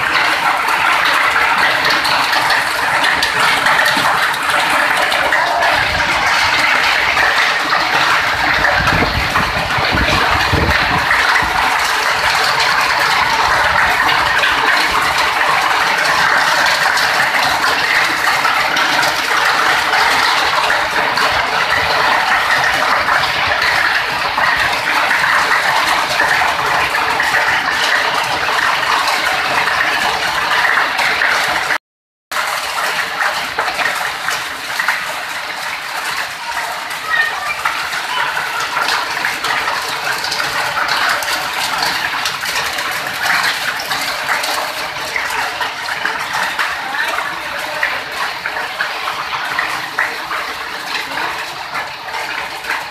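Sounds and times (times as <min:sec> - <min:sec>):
hail and rain on metal roof: 0:00.0 - 0:52.9.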